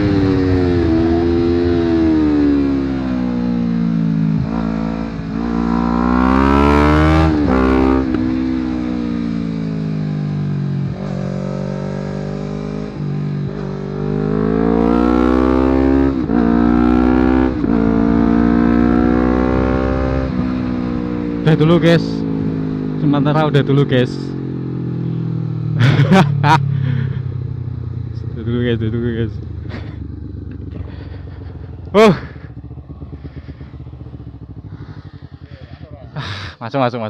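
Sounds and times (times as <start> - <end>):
motorcycle engine revving: 0.0 - 36.6.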